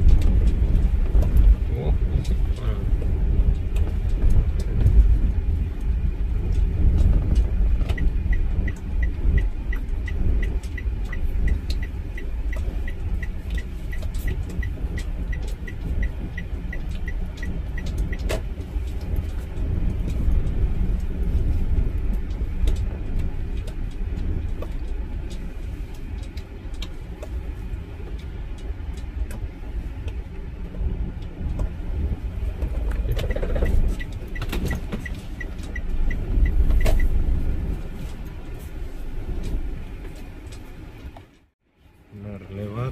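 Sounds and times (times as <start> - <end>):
turn signal ticking: 0.0 - 41.6
car engine and tyre rumble: 0.0 - 42.9.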